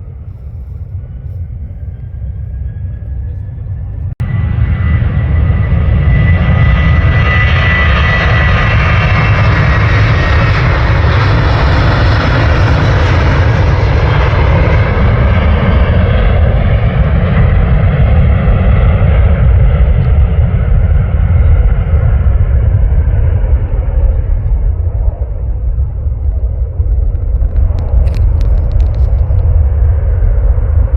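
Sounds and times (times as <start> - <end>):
jet airliner passing: 0.0 - 30.9.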